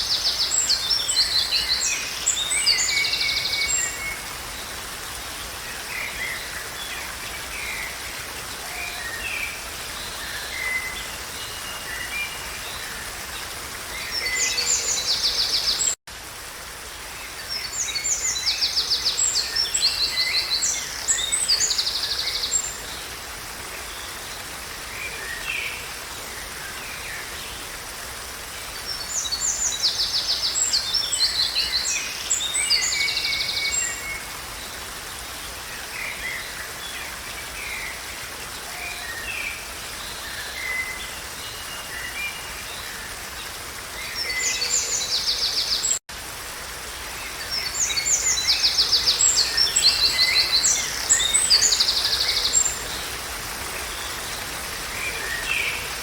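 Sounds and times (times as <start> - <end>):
wild birds singing and calling: 0.0 - 16.0, 17.3 - 46.0, 46.8 - 56.0.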